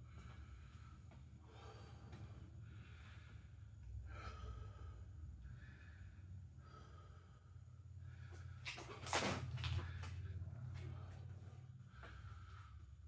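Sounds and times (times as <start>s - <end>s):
man breathing hard: 0.0s - 8.9s, 9.7s - 13.0s
steady low hum: 0.0s - 13.0s.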